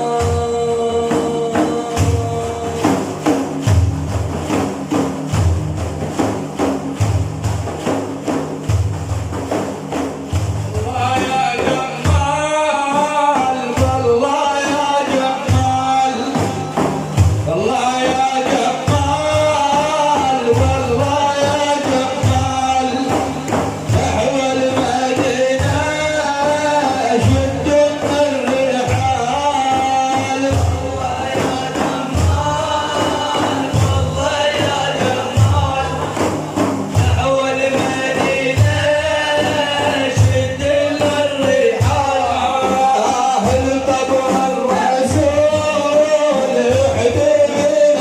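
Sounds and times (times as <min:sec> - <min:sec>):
solo voice chanting: 0:00.0 - 0:04.2, 0:10.6 - 0:48.0
frame drums beating a rhythm: 0:00.0 - 0:48.0.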